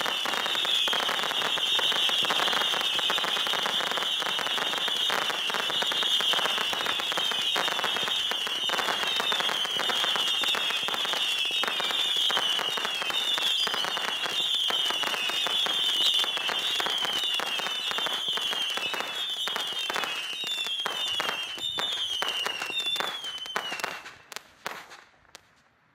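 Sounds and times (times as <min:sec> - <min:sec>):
fireworks whistling: 0:00.0 - 0:25.7
fireworks popping and banging: 0:00.0 - 0:25.9.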